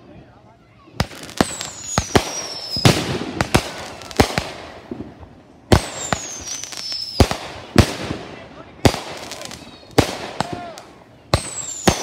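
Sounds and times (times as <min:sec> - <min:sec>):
fireworks bangs: 0:00.9 - 0:12.0.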